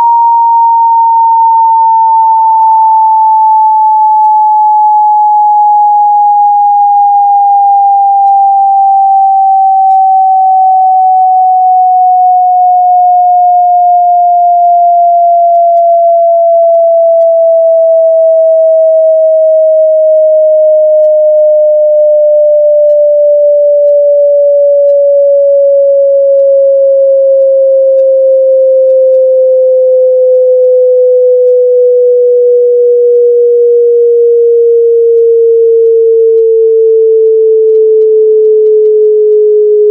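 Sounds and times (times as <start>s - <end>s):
electronic sine tone sliding down: 0.0s - 39.9s.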